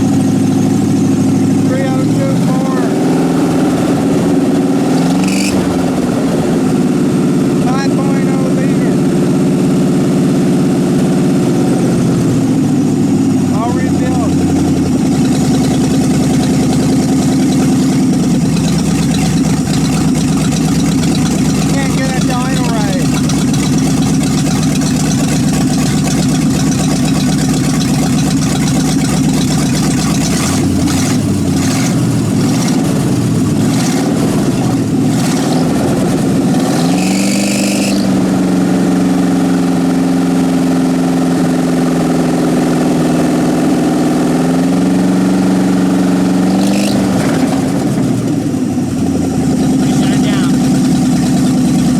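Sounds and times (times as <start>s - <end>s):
car engine idling and revving: 0.0s - 51.9s.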